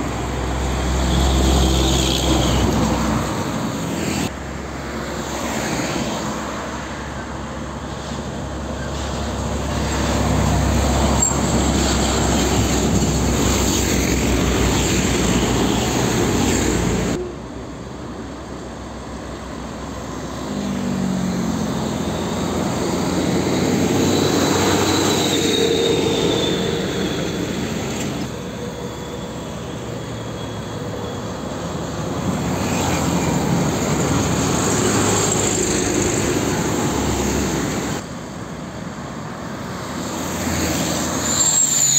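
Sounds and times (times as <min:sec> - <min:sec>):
diesel trucks driving past: 0:00.0 - 0:41.9.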